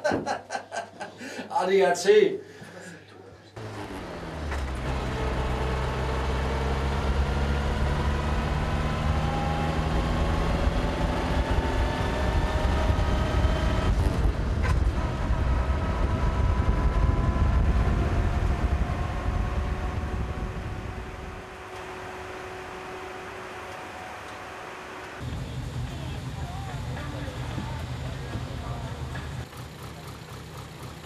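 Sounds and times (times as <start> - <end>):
car engine accelerating: 3.6 - 31.0.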